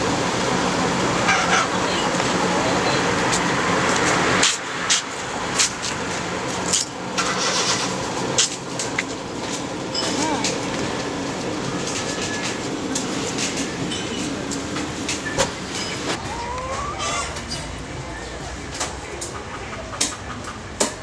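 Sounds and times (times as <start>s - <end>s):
road vehicle passing: 0.0s - 21.0s.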